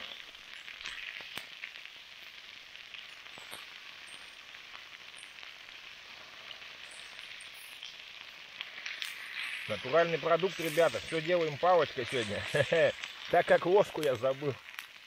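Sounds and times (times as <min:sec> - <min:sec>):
potatoes sizzling: 0:00.0 - 0:15.0.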